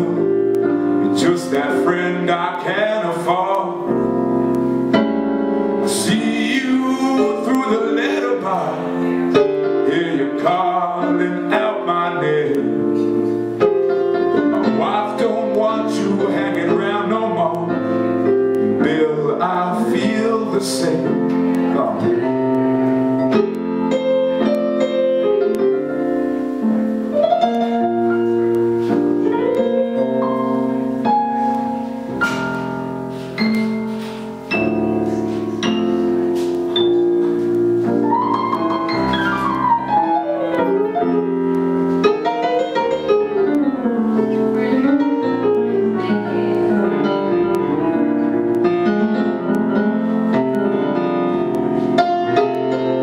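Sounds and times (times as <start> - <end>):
blues piano chords and runs: 0.0 - 53.0.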